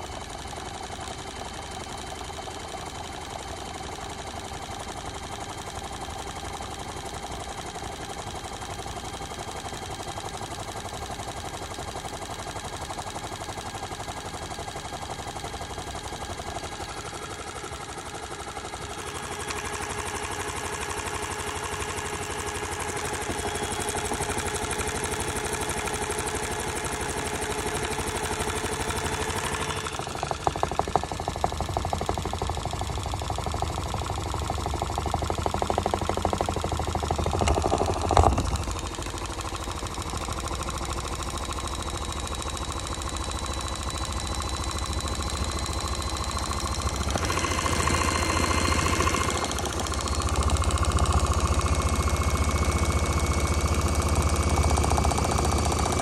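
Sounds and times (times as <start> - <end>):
rapid knocking and rattling: 0.0 - 56.0
toy washing machine spinning: 0.0 - 56.0.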